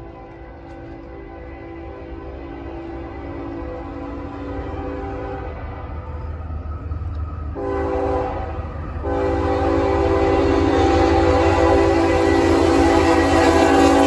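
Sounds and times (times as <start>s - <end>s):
locomotive air horn: 0.0s - 6.1s, 7.5s - 14.0s
train rumble: 0.0s - 14.0s.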